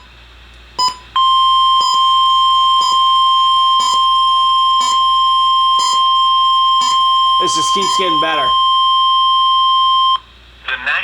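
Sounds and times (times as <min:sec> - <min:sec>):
loud steady alarm tone: 0:00.8 - 0:10.2.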